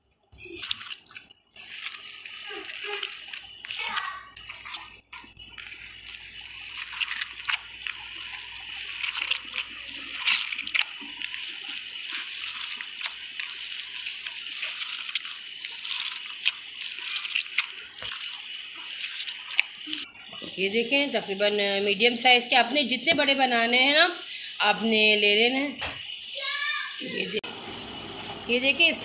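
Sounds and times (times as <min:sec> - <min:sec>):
hand squishing wet mince: 0:00.0 - 0:24.0.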